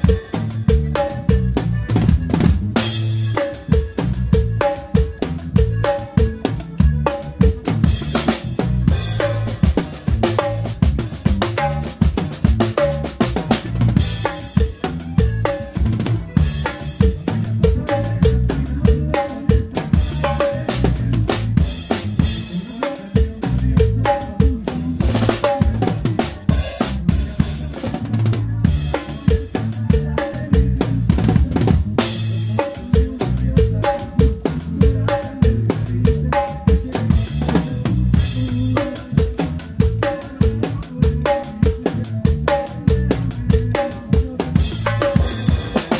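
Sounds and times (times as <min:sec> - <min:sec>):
bass line: 0:00.0 - 0:45.9
drum kit beat: 0:00.0 - 0:45.9.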